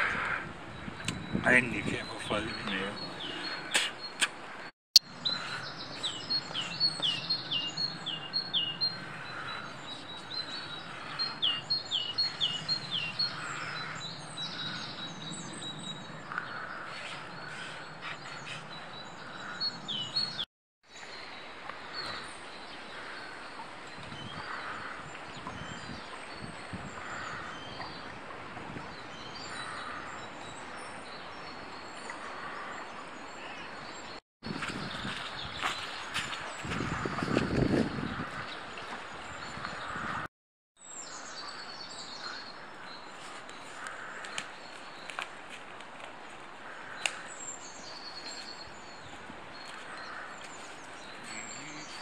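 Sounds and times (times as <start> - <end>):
songbirds singing: 0.0 - 45.5, 46.6 - 52.0
outdoor background noise: 0.0 - 52.0.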